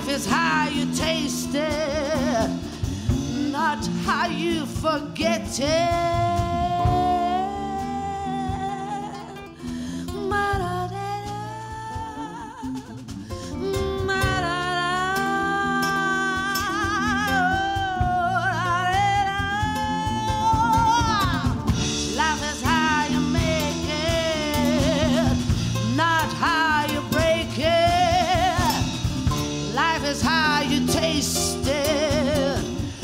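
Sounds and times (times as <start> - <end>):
acoustic guitar: 0.0 - 33.0
bass: 0.0 - 33.0
drums: 0.0 - 33.0
woman singing with vibrato: 0.0 - 33.0.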